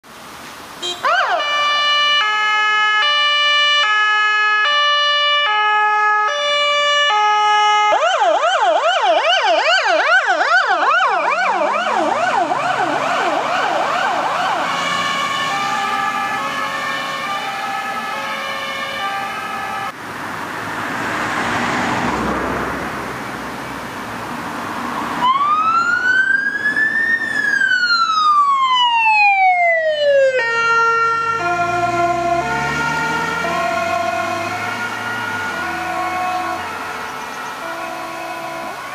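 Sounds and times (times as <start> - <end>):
siren sweeping up and down: 0.8 - 20.0, 25.2 - 38.9
two-tone emergency siren: 0.8 - 20.0, 25.2 - 38.9.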